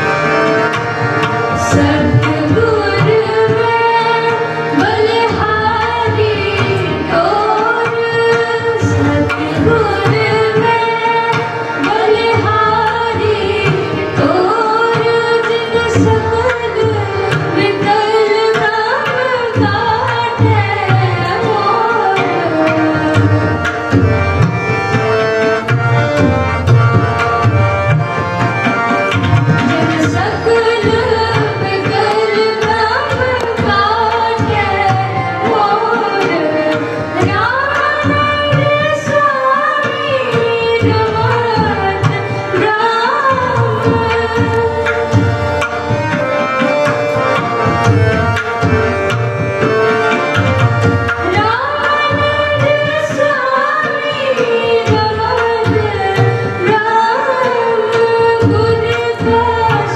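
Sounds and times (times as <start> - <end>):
women singing: 0.0 - 24.5, 29.2 - 46.5, 49.9 - 59.9
harmonium: 0.0 - 59.9
tabla beat: 0.0 - 59.9.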